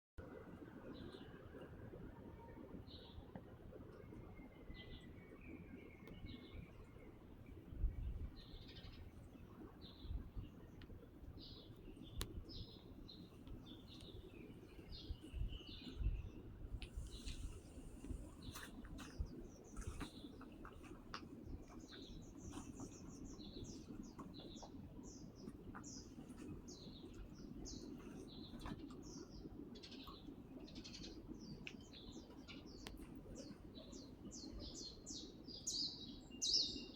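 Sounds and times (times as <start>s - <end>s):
small birds chirping: 3.9s - 36.9s.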